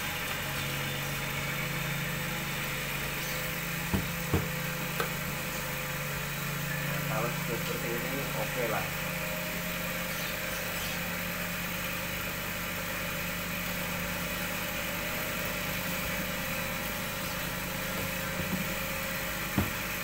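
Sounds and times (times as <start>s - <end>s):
cotton candy machine motor hum: 0.0s - 20.0s.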